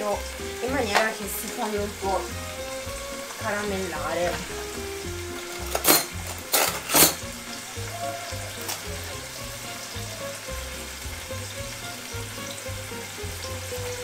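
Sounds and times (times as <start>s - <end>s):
tomatoes sizzling in a frying pan: 0.0s - 14.0s.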